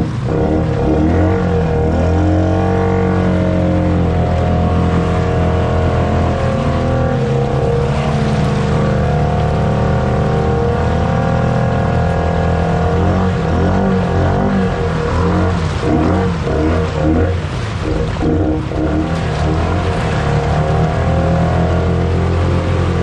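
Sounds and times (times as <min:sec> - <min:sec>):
atv engine revving high: 0:00.0 - 0:23.0.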